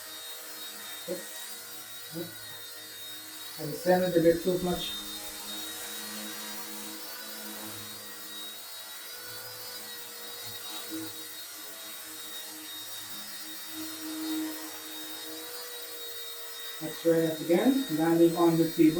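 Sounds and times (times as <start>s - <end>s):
model helicopter motor whine: 0.0s - 18.9s.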